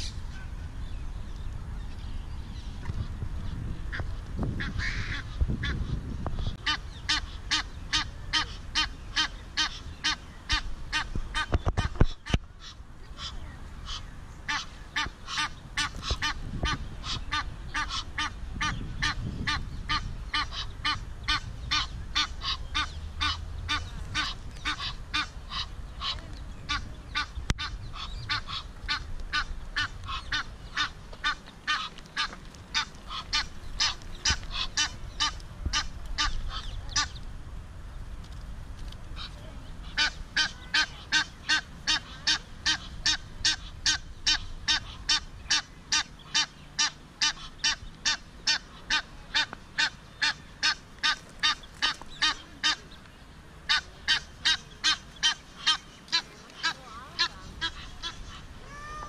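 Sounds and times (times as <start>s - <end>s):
geese calling: 3.9s - 37.2s, 39.2s - 53.0s, 53.6s - 59.0s.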